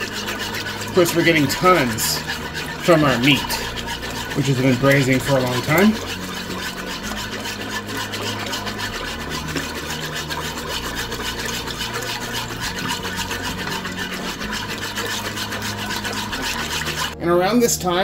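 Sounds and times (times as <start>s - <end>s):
scraping against metal pot: 0.0s - 17.2s
utensil stirring in metal pot: 0.0s - 17.2s.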